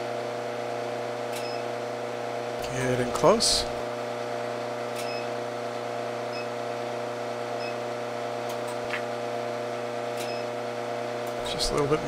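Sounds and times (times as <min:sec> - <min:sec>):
induction heater humming: 0:00.0 - 0:12.0.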